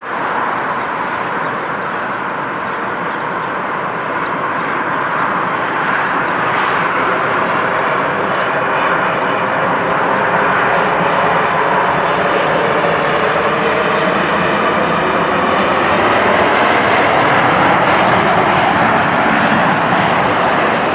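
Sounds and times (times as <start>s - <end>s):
jet engines rushing: 0.0s - 20.9s.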